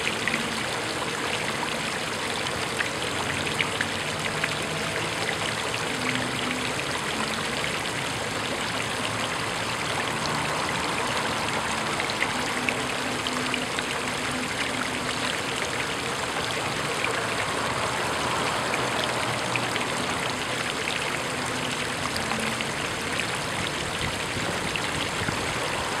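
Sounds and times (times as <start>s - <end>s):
fountain water splashing into pool: 0.0s - 26.0s.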